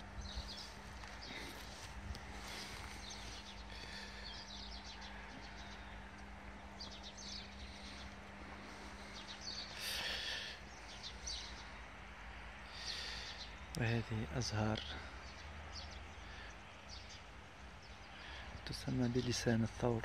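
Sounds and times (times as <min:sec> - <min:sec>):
faint steady hum: 0:00.0 - 0:20.0
rustle: 0:00.0 - 0:20.0
small birds chirping: 0:00.0 - 0:20.0.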